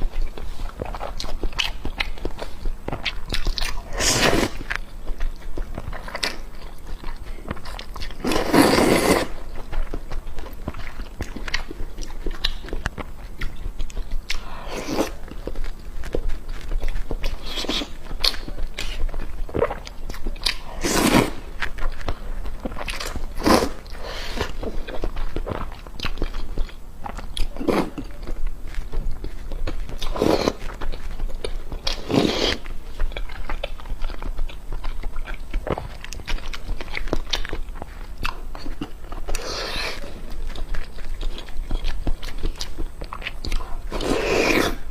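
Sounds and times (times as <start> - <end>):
person chewing with crunching: 0.0 - 44.9.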